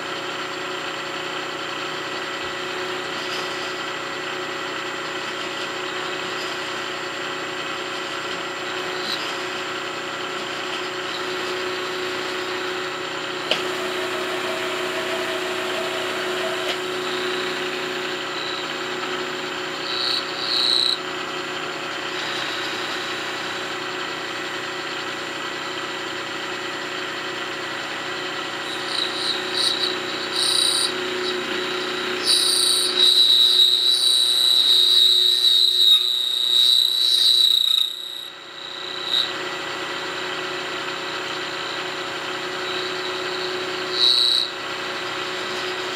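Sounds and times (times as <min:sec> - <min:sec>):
milling machine hum: 0:00.1 - 0:37.7, 0:38.3 - 0:45.9
high-pitched cutter squeal: 0:05.0 - 0:24.4, 0:28.4 - 0:45.9.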